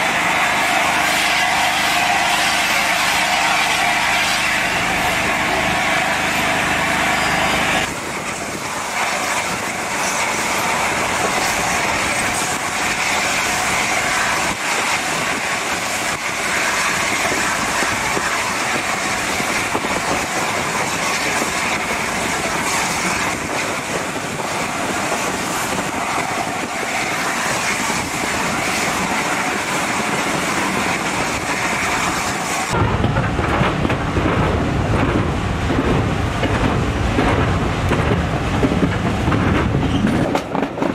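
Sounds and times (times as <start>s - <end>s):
deep heavy train rumble: 0.0s - 40.9s
train wheels on rail: 0.0s - 40.9s.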